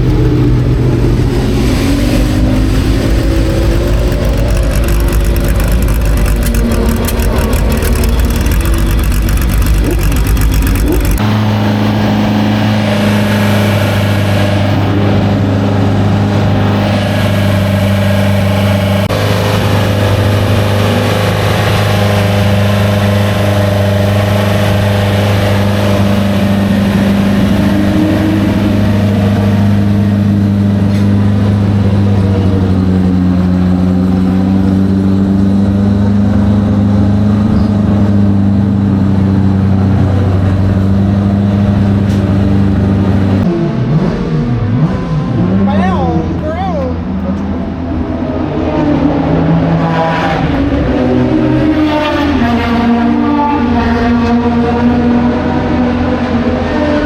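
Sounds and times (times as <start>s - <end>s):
racing car engine running: 0.0s - 45.7s.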